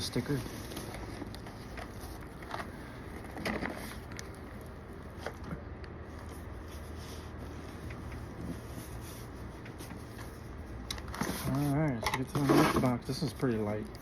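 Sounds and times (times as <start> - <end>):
handling noises and rustles: 0.0 - 14.0
steady low hum: 0.0 - 14.0.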